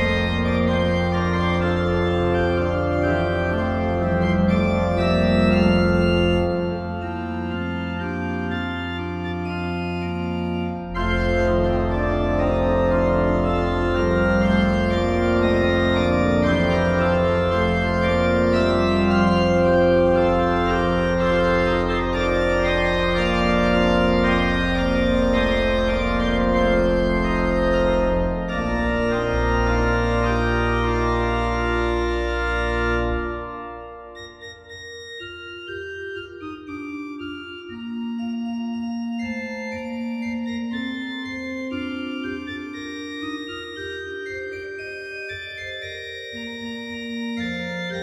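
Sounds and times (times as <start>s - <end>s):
pipe organ music: 0.0s - 48.0s.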